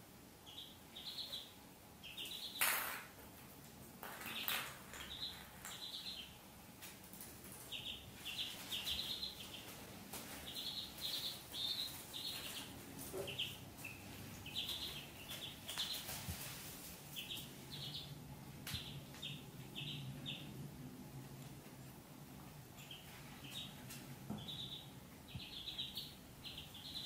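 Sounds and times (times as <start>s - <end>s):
ducklings peeping: 0.4s - 3.1s, 4.1s - 20.8s, 22.6s - 27.0s.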